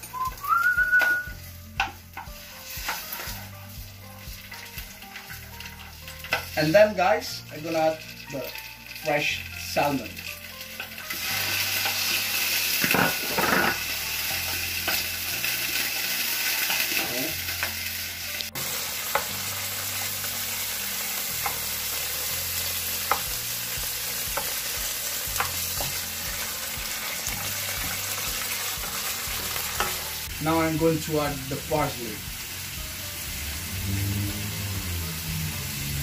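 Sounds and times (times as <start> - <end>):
fish sizzling in oil: 0.0 - 36.0.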